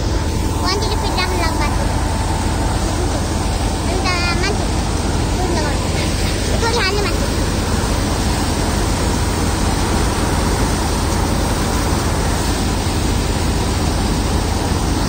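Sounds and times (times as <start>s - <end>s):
low machine hum: 0.0s - 15.0s
thresher rushing noise: 0.0s - 15.0s.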